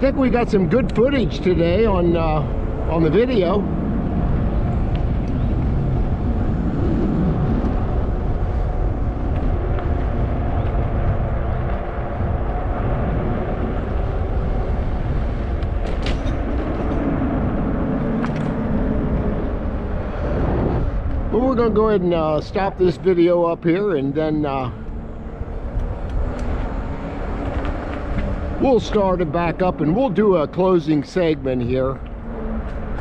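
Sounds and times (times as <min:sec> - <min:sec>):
bike road noise: 0:00.0 - 0:33.0
wind rushing over microphone: 0:00.0 - 0:33.0.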